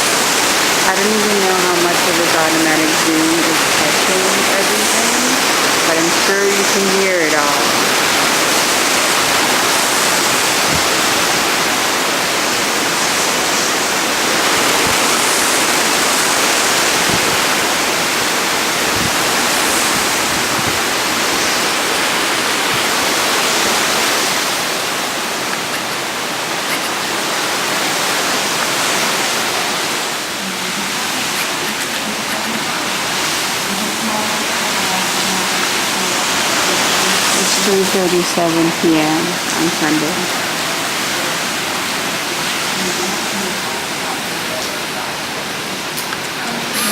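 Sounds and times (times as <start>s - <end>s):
strong wind and driving rain: 0.0s - 46.9s.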